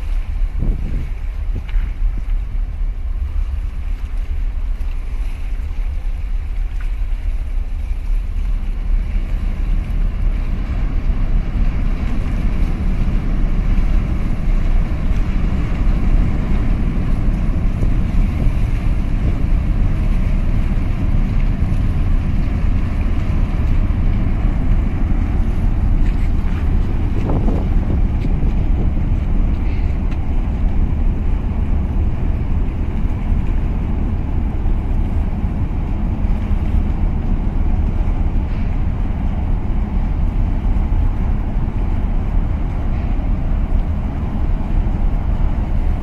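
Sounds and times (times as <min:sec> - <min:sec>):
rushing water: 0:00.0 - 0:46.0
ship engine rumble: 0:00.0 - 0:46.0
wind buffeting microphone: 0:00.0 - 0:46.0.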